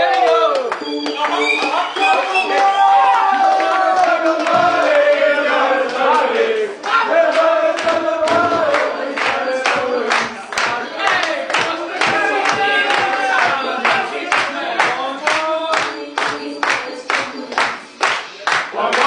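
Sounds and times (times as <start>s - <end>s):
song with steady beat: 0.1s - 19.0s
men singing and shouting: 1.2s - 17.6s.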